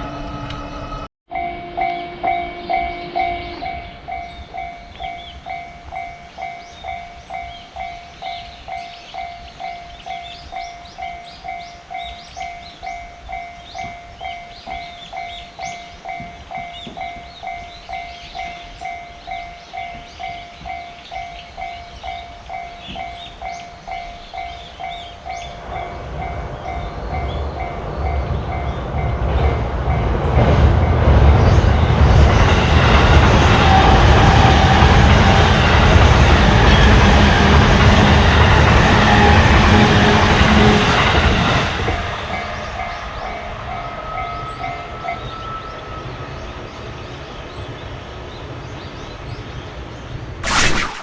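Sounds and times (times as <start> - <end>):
railroad crossing bell ringing: 0.0 - 31.0, 32.3 - 47.2
low train rumble: 0.0 - 49.4.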